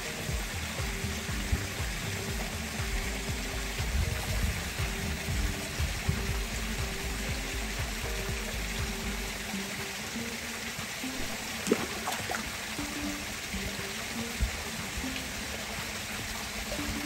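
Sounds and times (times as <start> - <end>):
soft background music: 0.0 - 17.0
steady rushing hiss: 0.0 - 17.0.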